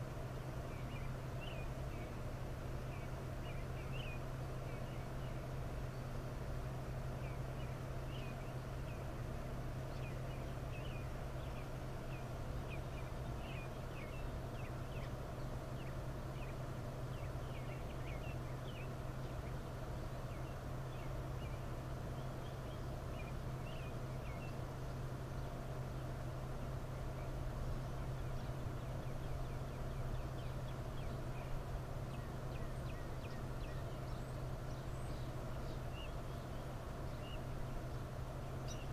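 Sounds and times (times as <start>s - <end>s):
steady low hum: 0.0s - 38.9s
birds chirping: 0.1s - 38.9s.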